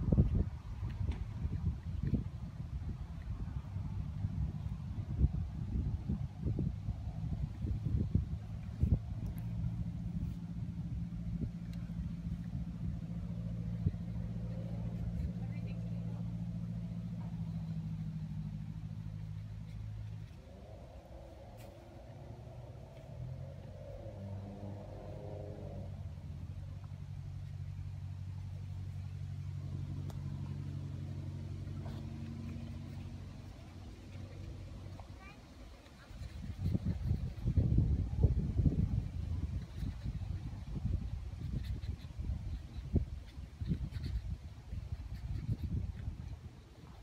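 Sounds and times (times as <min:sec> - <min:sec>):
low engine hum: 0:00.0 - 0:47.0.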